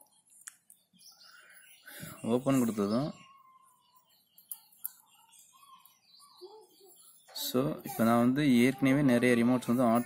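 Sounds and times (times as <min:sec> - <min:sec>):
faint birds chirping: 0:00.0 - 0:10.0.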